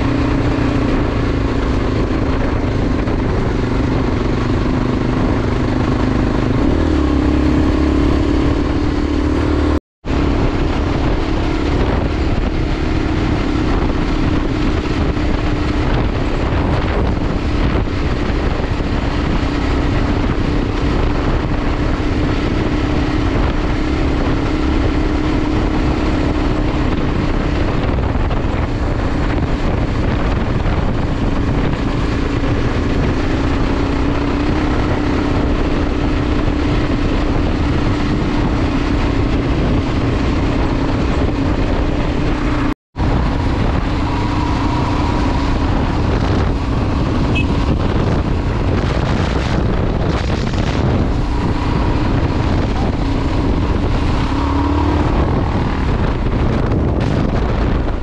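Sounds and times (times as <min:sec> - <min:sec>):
dense rushing noise: 0:00.0 - 0:58.0
motorcycle engine running: 0:00.0 - 0:58.0.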